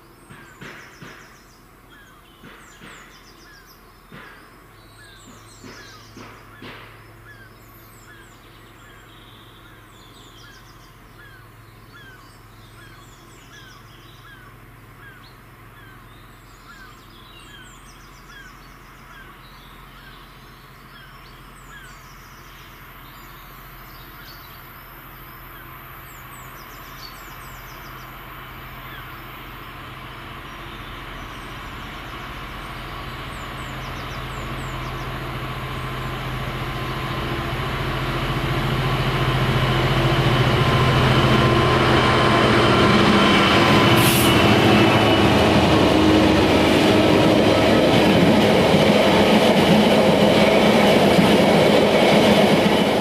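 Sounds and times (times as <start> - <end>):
birds calling: 0.0 - 53.0
diesel locomotive droning: 0.0 - 53.0.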